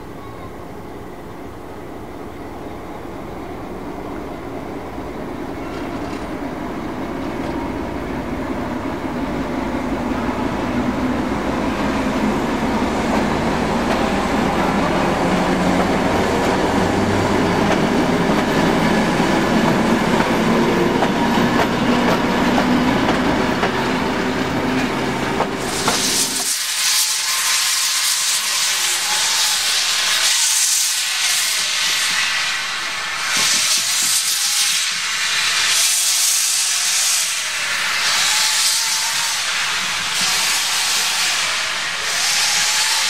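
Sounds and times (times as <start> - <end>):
diesel locomotive engine under load: 0.0 - 43.0.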